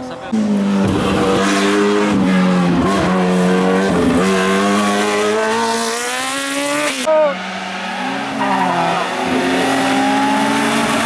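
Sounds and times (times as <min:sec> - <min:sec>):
racing car engine accelerating: 0:00.3 - 0:11.0.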